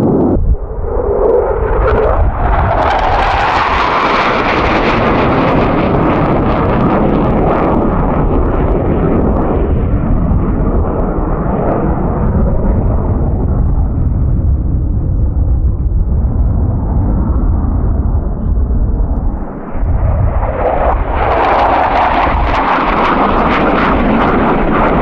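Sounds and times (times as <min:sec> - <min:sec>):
fighter jet flying low past: 0:00.0 - 0:25.0.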